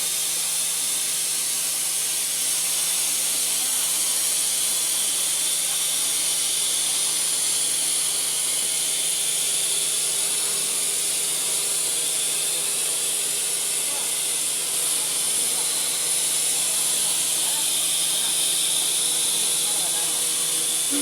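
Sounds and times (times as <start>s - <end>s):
machine cutting hiss: 0.0s - 21.0s.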